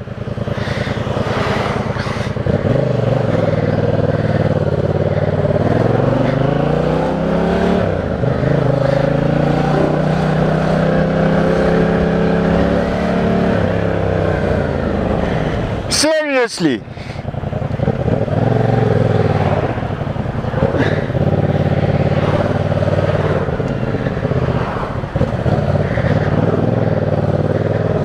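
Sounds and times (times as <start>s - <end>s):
motorcycle engine revving: 0.0s - 15.9s, 16.8s - 28.0s
riding wind noise: 0.0s - 28.0s.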